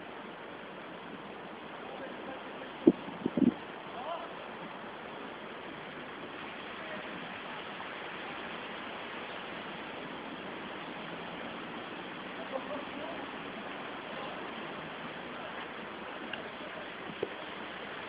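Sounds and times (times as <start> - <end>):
tyres churning through water: 0.0 - 18.0.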